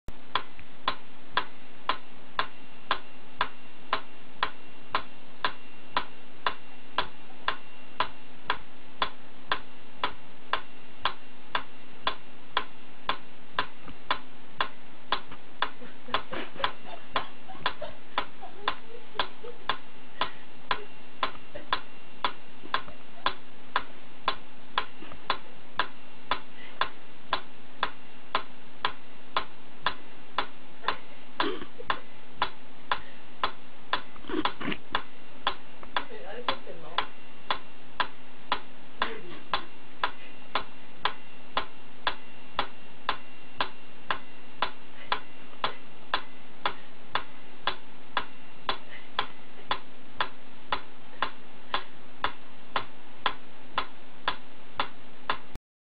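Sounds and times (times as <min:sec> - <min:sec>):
faint steady hum: 0:00.1 - 0:55.6
metronome ticking: 0:00.3 - 0:55.6.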